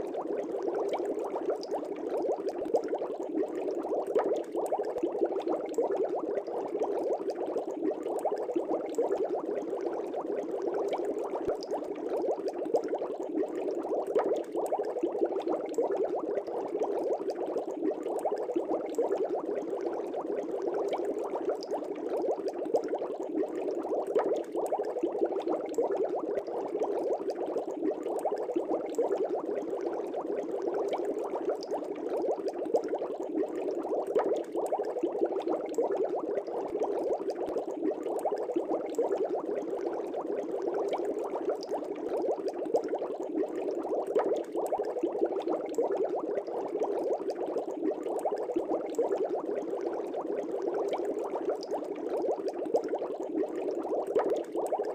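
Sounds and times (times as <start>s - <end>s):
air bubbles in fish tank: 0.0s - 54.9s.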